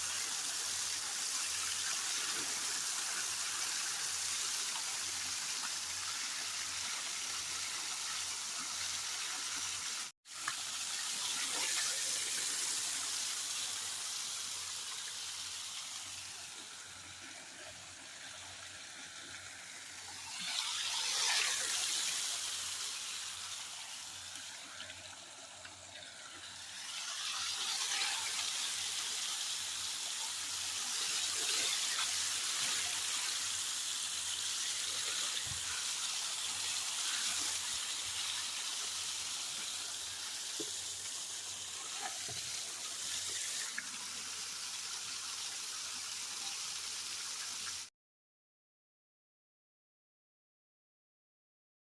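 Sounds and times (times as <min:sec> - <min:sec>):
water running and splashing: 0:00.0 - 0:47.9.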